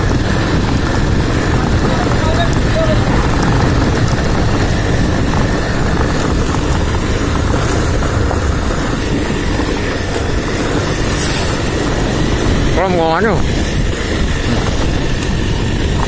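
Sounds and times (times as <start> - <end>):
motorcycle engine rumble: 0.0 - 16.0
road noise: 0.0 - 16.0.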